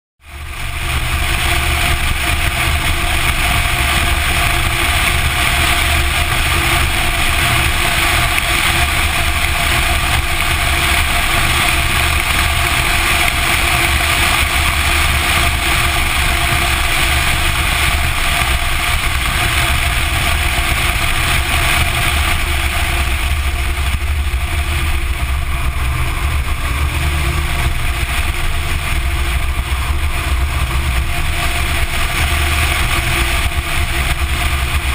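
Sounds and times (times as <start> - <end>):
car engine running: 0.2 - 34.9
wind noise: 0.3 - 34.9.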